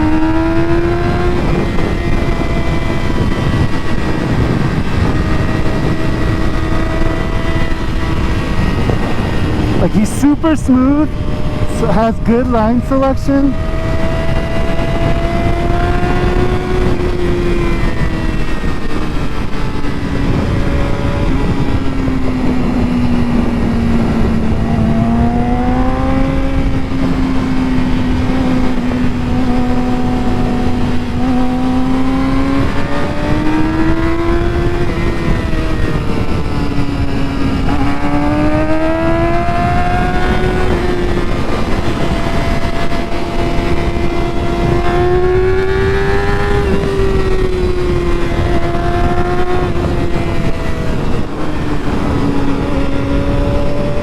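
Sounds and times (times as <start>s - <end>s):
motorcycle engine: 0.0s - 54.0s
wind rush: 0.0s - 54.0s.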